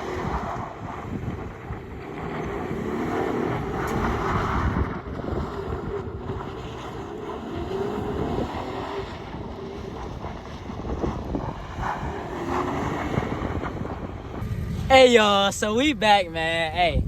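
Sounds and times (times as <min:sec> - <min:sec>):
engine revving: 0:00.0 - 0:15.8
wind noise on microphone: 0:00.0 - 0:17.0.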